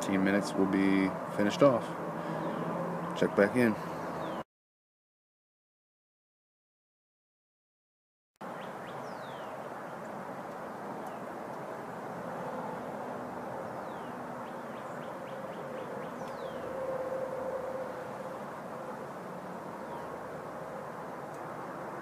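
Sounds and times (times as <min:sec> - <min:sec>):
outdoor background hum: 0:00.0 - 0:04.4, 0:08.4 - 0:22.0.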